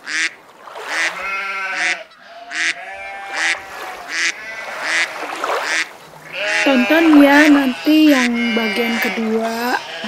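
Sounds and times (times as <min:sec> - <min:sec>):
waterfowl calling: 0:00.0 - 0:10.0.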